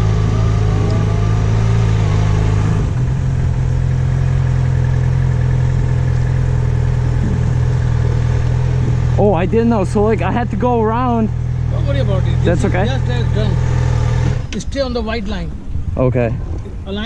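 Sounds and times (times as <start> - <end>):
motorcycle engine running at low revs: 0.0 - 14.6.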